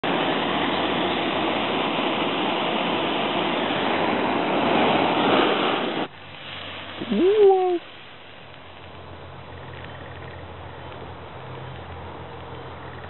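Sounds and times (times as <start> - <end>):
torch flame hissing: 0.0 - 11.4.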